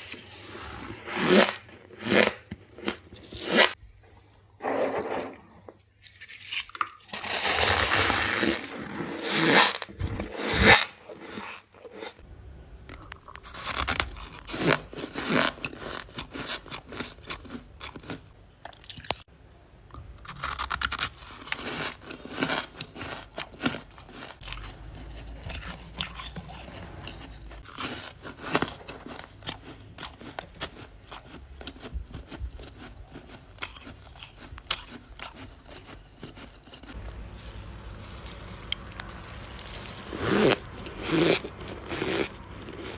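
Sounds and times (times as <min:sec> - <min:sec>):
person chewing crunchy frost: 0:00.0 - 0:03.8, 0:04.6 - 0:12.2, 0:12.9 - 0:19.3, 0:19.9 - 0:42.9.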